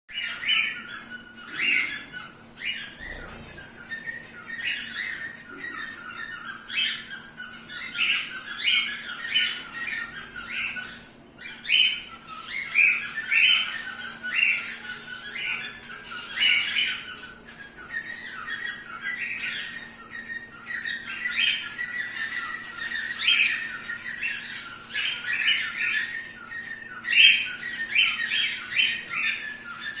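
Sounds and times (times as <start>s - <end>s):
finches squawking calls: 0.1s - 30.0s.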